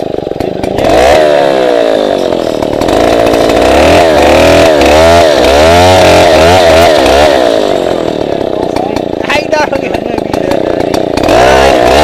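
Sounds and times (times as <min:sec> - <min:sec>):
chainsaw running at high revs: 0:00.0 - 0:12.0.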